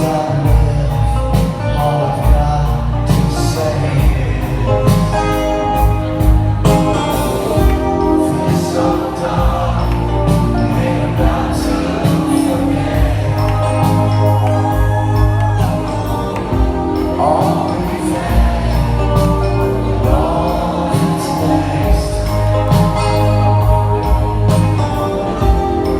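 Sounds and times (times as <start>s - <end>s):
bass: 0.0s - 25.9s
live band music: 0.0s - 25.9s
steady drum beat: 0.0s - 25.9s.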